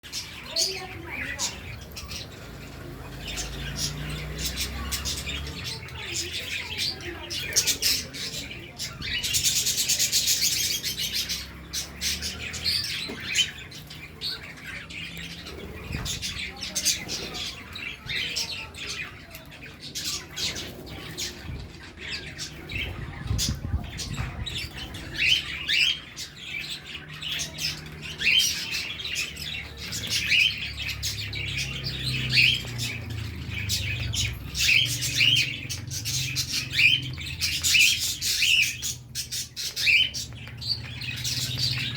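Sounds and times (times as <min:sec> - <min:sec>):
budgerigars chattering: 0:00.1 - 0:41.9.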